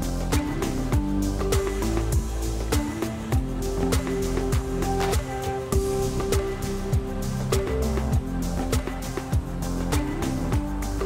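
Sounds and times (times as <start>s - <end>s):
electronic drum beat: 0.0s - 11.0s
held synth notes: 0.0s - 11.0s.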